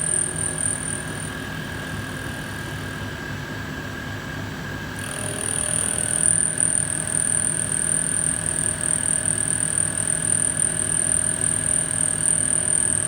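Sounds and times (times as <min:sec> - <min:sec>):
milling machine motor whine: 0:00.0 - 0:03.2, 0:04.9 - 0:13.0.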